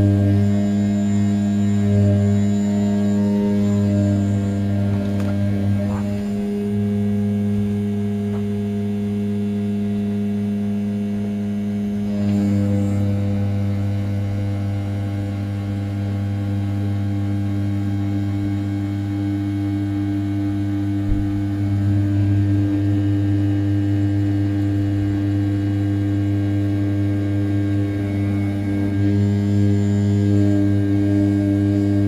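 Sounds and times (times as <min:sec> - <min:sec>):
milling spindle humming: 0:00.0 - 0:32.0.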